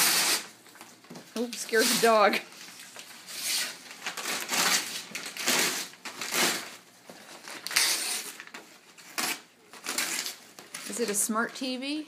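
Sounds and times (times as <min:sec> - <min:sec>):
wrapping paper tearing and crumpling: 0:00.0 - 0:00.5, 0:01.4 - 0:11.3.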